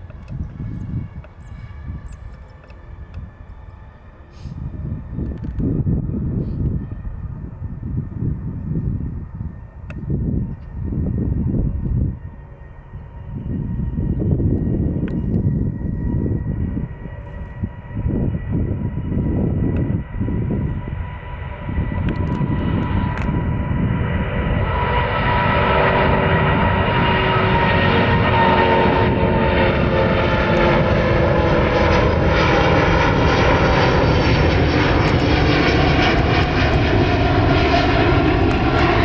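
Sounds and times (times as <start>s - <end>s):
jet engines roaring at takeoff: 0.0s - 39.0s
whining engine tones: 0.0s - 39.0s.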